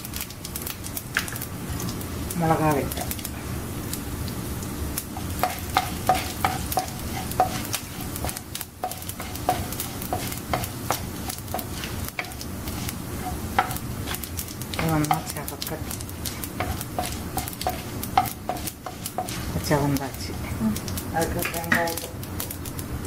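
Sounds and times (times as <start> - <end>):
wooden spoon stirring in pan: 0.0 - 22.8
seeds sizzling and popping in oil: 0.0 - 23.0.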